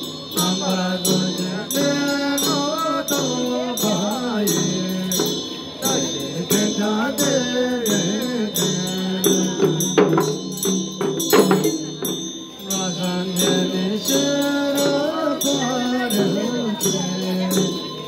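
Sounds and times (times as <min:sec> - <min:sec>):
hand bells ringing: 0:00.0 - 0:18.0
hand drums rattling: 0:00.0 - 0:18.0
monks and nuns chanting: 0:00.0 - 0:18.0.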